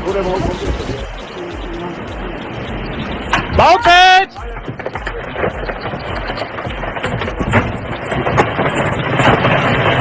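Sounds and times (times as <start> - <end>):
heavy machinery running: 0.0 - 10.0.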